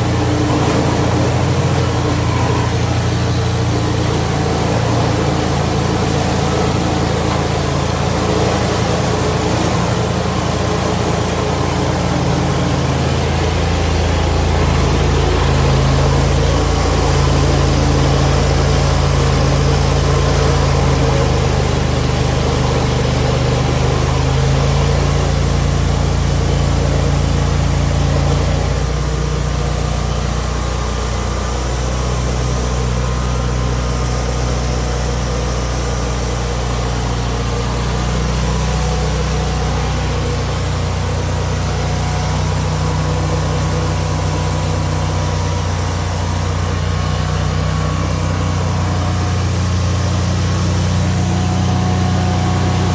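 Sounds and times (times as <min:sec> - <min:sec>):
stump grinder engine droning: 0:00.0 - 0:52.9.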